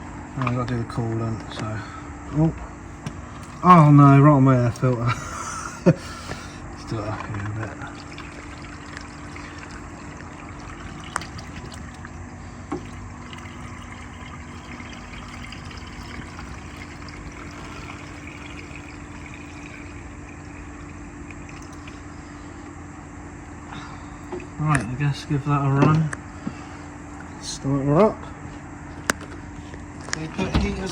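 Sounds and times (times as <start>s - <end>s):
coolant trickling: 0.0s - 28.1s, 28.7s - 30.9s.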